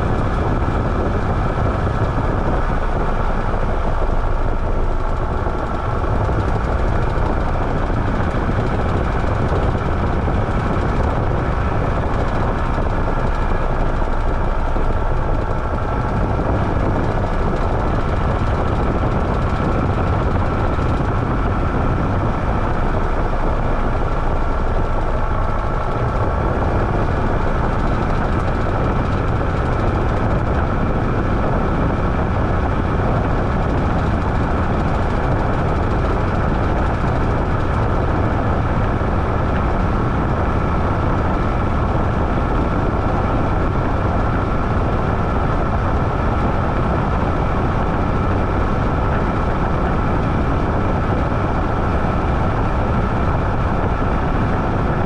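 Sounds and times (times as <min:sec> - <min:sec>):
faint constant whine: 0:00.0 - 0:55.0
washing machine rumbling: 0:00.0 - 0:55.0.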